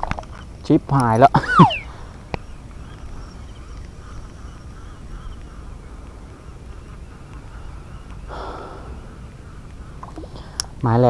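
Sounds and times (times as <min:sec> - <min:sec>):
faint animal calls: 0:01.4 - 0:10.8.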